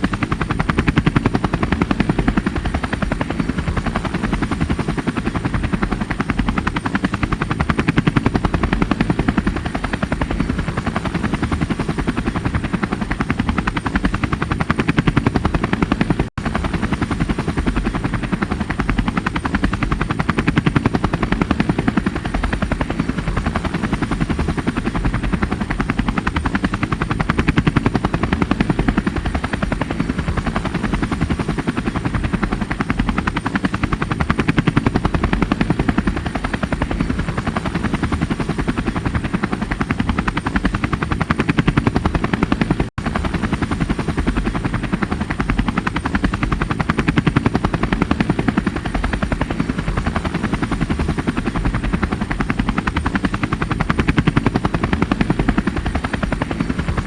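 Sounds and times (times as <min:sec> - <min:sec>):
helicopter rotor chop: 0:00.0 - 0:57.0.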